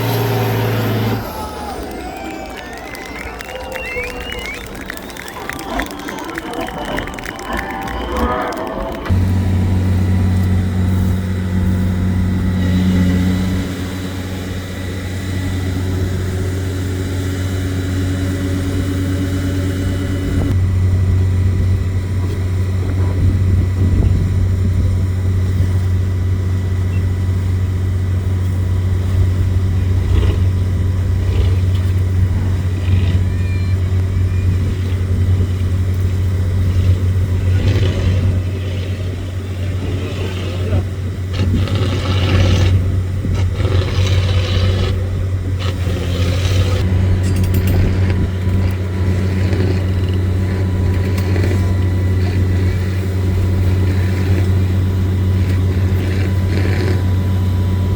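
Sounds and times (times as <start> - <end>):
truck engine droning: 0.0 - 57.9.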